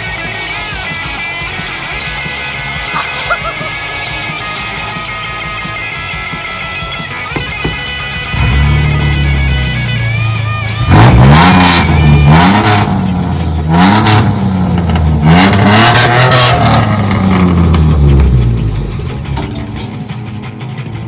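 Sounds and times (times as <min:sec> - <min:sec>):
car engine revving hard: 0:00.0 - 0:21.0.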